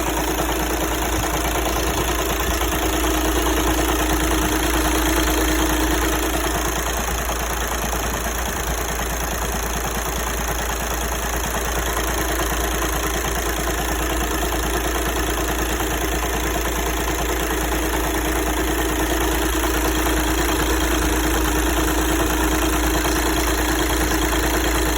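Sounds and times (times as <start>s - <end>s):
diesel car engine idling: 0.0s - 24.9s.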